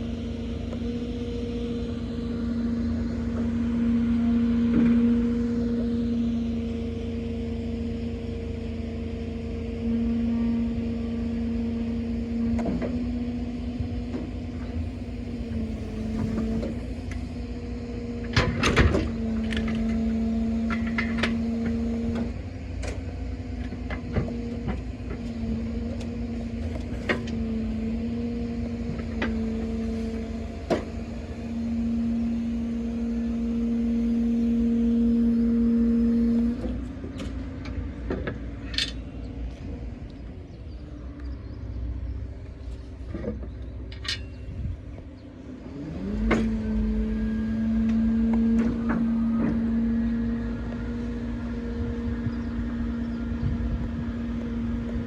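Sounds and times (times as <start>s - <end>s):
hydraulic crane whine: 0.0s - 55.0s.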